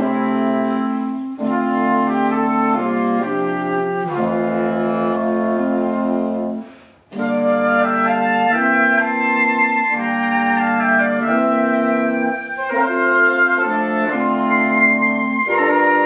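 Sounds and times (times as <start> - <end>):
woodwind quintet playing chords: 0.0 - 16.0.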